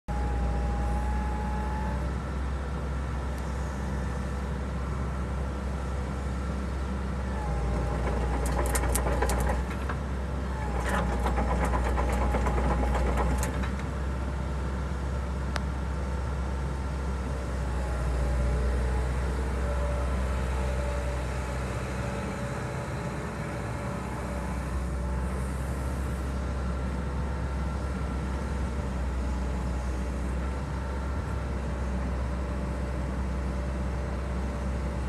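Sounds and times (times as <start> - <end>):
excavator diesel engine running: 0.1 - 35.0.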